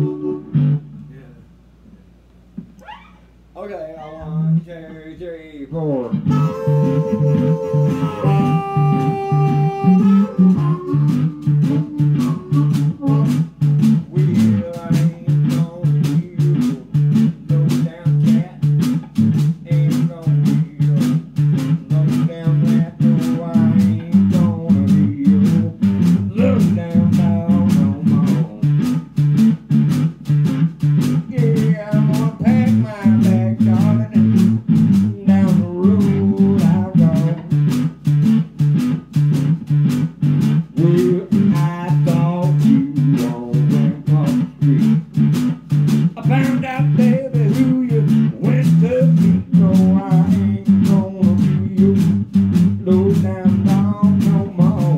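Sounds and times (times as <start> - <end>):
blues band playing: 0.0 - 1.2, 5.8 - 54.9
drum kit beat: 6.1 - 54.9.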